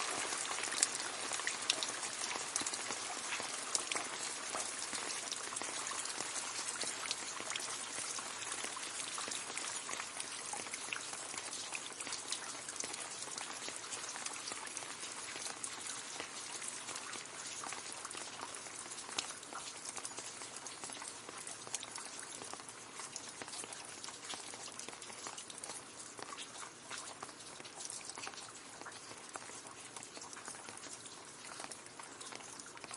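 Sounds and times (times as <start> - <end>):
rain pattering on leaves: 0.0 - 32.9.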